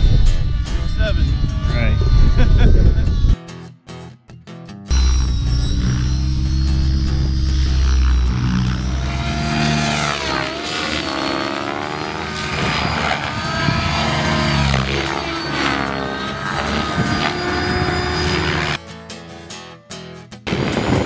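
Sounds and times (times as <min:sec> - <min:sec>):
model helicopter flying: 0:00.0 - 0:03.4, 0:04.9 - 0:18.8.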